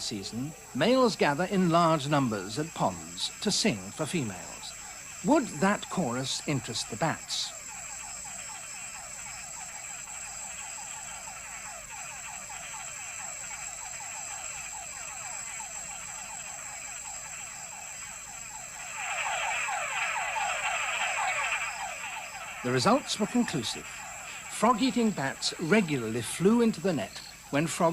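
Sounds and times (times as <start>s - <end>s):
frogs calling in chorus: 0.0s - 27.9s.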